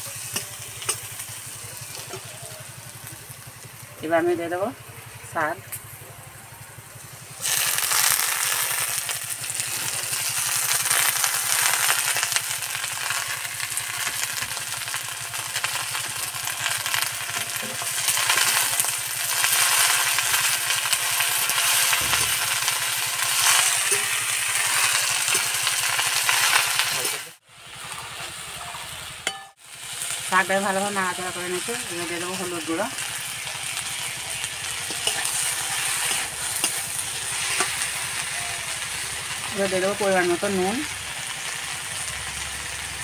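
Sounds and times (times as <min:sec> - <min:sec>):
greens sizzling in hot oil: 0:00.0 - 0:06.0, 0:06.8 - 0:43.0
spatula turning food in a wok: 0:00.0 - 0:06.0, 0:06.6 - 0:43.0.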